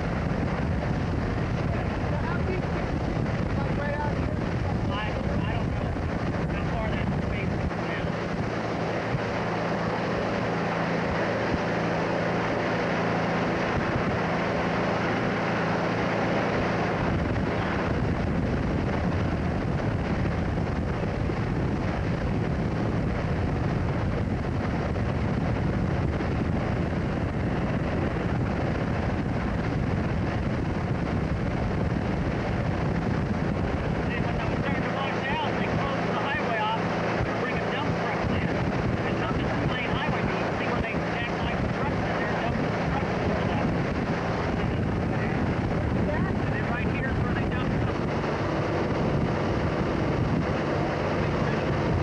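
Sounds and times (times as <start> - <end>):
motorboat engine running: 0.0 - 52.0
wind rushing over microphone: 0.0 - 52.0.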